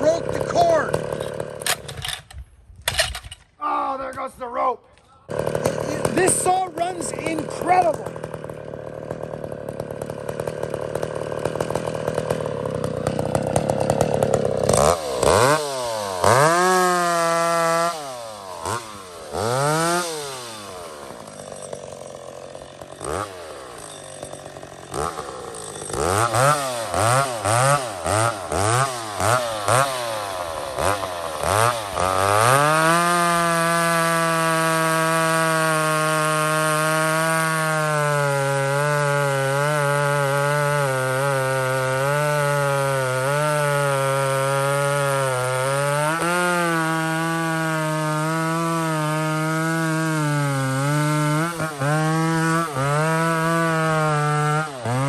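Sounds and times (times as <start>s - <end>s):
chainsaw revving: 0.0s - 2.3s, 5.2s - 55.0s.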